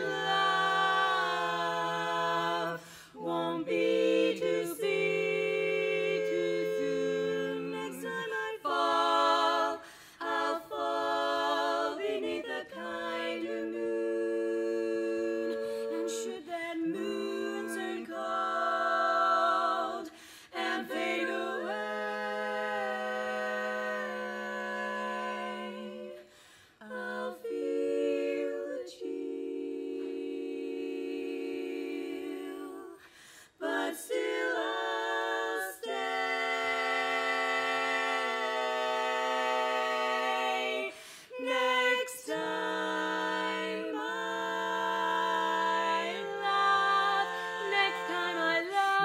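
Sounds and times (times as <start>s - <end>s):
female quartet singing a cappella: 0.0s - 49.0s.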